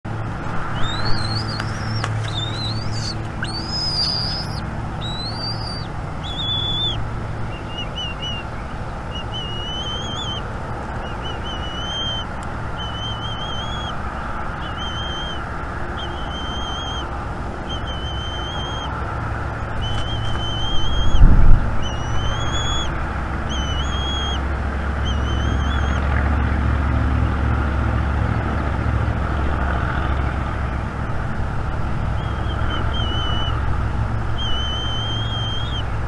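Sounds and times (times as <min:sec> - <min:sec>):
steady low hum: 0:00.1 - 0:36.0
eagle calling: 0:00.6 - 0:26.2, 0:32.1 - 0:35.9.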